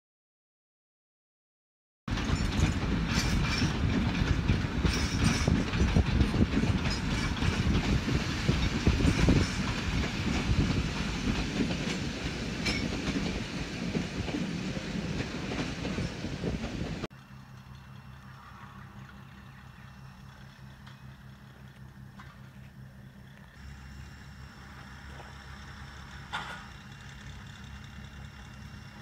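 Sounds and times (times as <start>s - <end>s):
train carriages rumbling past: 2.1s - 29.0s.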